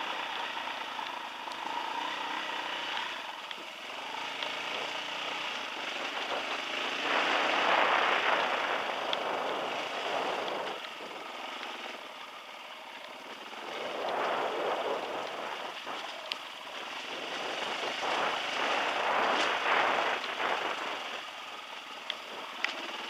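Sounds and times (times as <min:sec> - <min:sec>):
dirt bike engine at low throttle: 0:00.0 - 0:23.0
rushing noise: 0:01.6 - 0:23.0.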